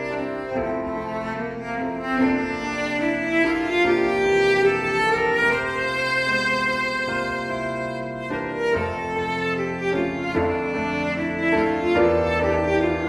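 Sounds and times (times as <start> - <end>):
slow bowed string music: 0.0 - 13.0.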